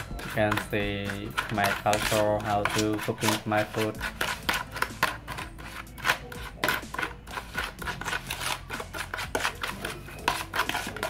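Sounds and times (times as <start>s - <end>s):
metal spoon scraping plastic bowl: 0.0s - 11.0s.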